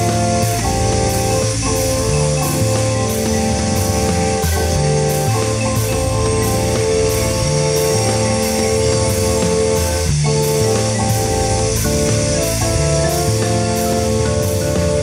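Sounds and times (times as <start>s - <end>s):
bass line: 0.0s - 15.0s
drum kit beat: 0.0s - 15.0s
held notes: 0.0s - 15.0s.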